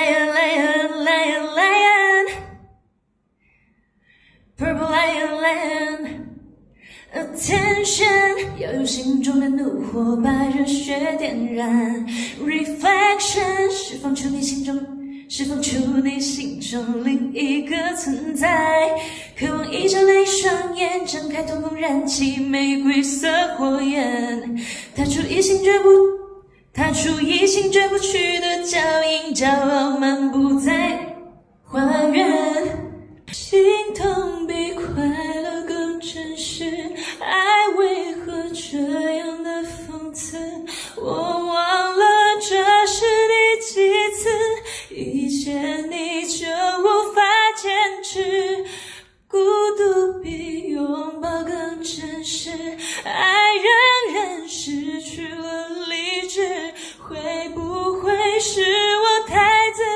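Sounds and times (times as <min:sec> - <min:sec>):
woman singing into microphone: 0:00.0 - 0:02.6, 0:04.6 - 0:06.4, 0:07.0 - 0:59.9.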